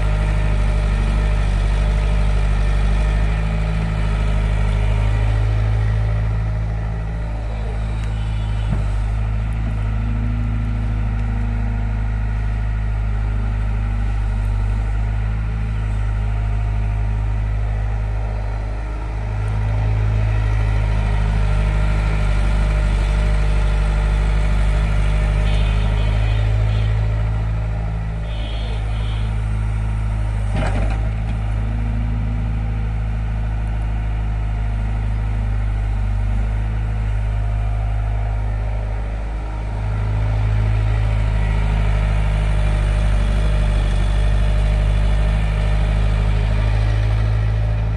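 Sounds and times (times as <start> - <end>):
diesel engines of heavy machinery: 0.0 - 47.9.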